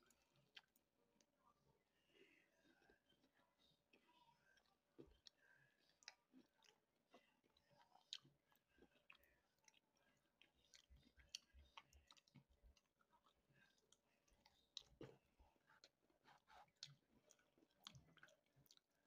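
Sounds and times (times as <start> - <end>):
chewing fried chicken: 0.0 - 19.0.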